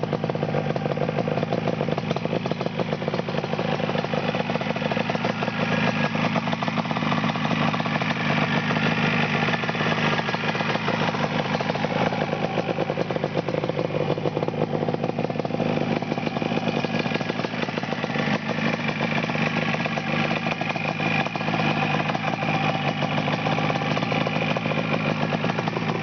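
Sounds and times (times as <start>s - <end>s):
two-stroke motorcycle engine idling: 0.0s - 26.0s.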